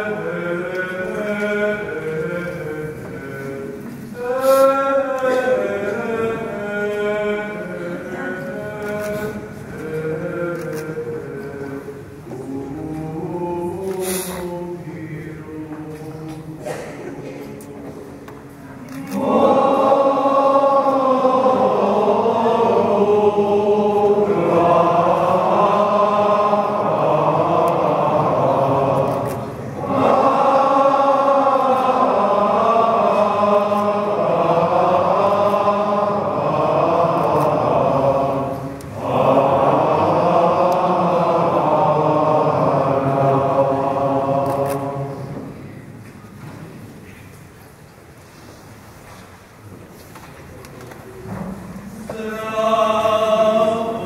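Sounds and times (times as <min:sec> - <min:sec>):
group singing religious chant: 0:00.0 - 0:45.9, 0:51.3 - 0:54.0.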